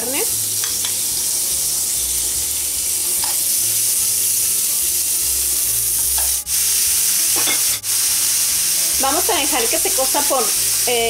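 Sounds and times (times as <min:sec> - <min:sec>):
steaks sizzling in oil: 0:00.0 - 0:11.0.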